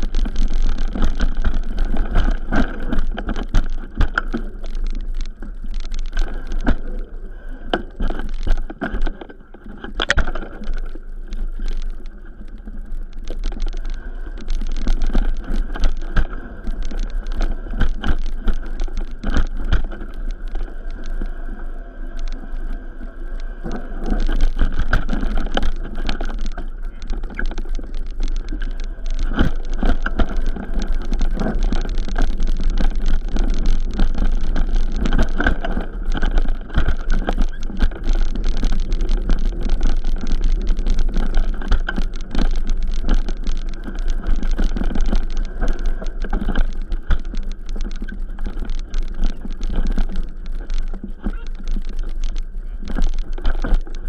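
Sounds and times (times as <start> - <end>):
rumble and rattling on rough trail: 0.0 - 54.0
small knocks and clatters: 7.7 - 21.3, 23.4 - 54.0.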